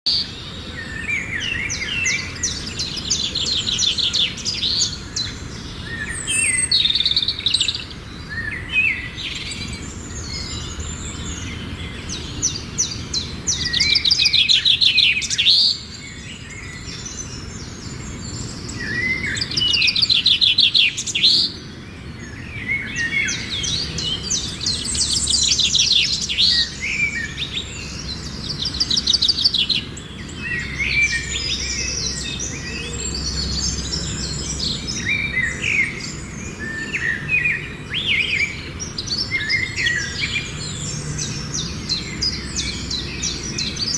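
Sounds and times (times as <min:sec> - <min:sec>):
songbirds singing trills: 0:00.0 - 0:43.9.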